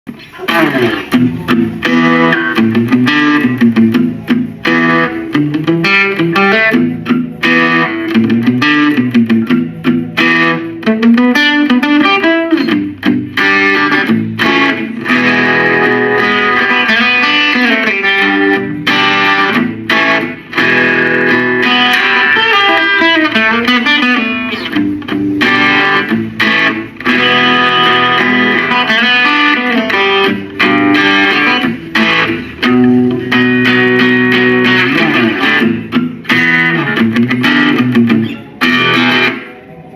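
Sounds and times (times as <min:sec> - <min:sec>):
electric guitar riffs: 0:00.1 - 0:39.9.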